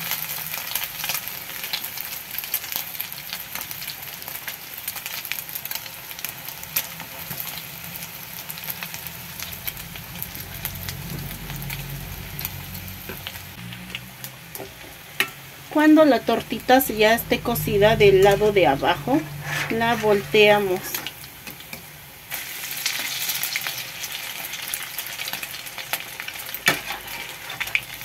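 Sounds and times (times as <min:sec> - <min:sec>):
patties frying in hot oil: 0:00.0 - 0:28.0.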